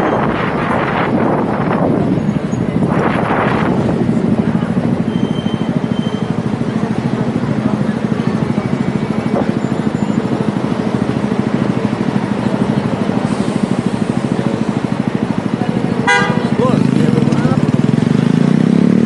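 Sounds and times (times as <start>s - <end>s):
bus engine running: 0.0s - 19.0s
traffic noise: 0.0s - 19.0s.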